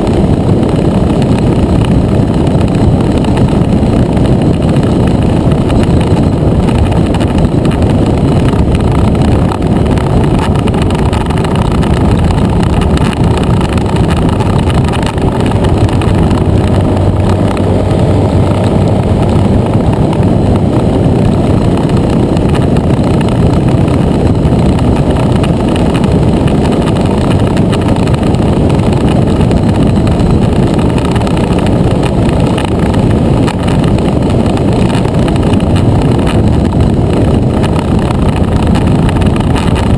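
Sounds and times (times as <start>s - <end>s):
scooter engine running: 0.0s - 39.9s
wind rush on microphone: 0.0s - 39.9s.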